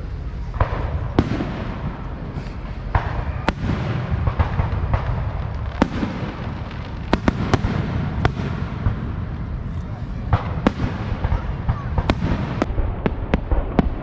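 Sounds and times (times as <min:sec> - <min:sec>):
distant fireworks bangs: 0:00.0 - 0:14.0
low rumble: 0:00.0 - 0:14.0.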